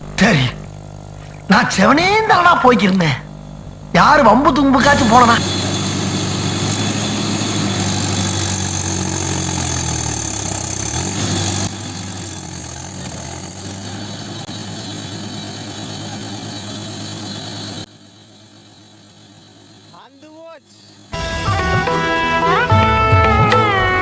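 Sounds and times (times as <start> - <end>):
tractor diesel engine running: 0.0 - 21.6.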